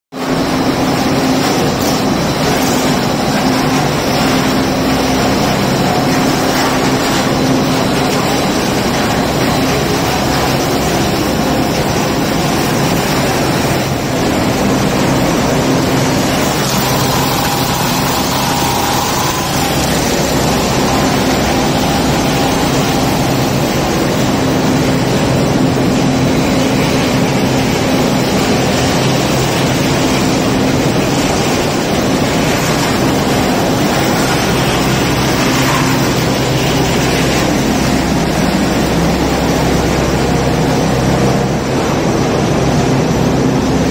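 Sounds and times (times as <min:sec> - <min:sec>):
low machine hum: 0:00.2 - 0:43.9
shredding machines din: 0:00.2 - 0:43.9.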